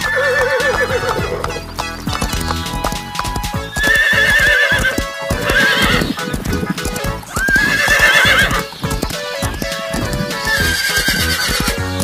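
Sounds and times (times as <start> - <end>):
background music: 0.0 - 12.0
hooves clip-clopping: 0.0 - 12.0
horses neighing: 0.0 - 12.0.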